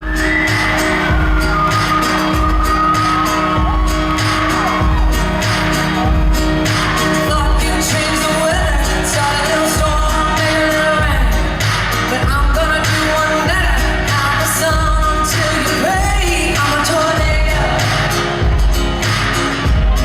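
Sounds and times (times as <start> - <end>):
heavy drum beat: 0.0 - 20.0
live country band: 0.0 - 20.0
people singing: 0.1 - 18.4.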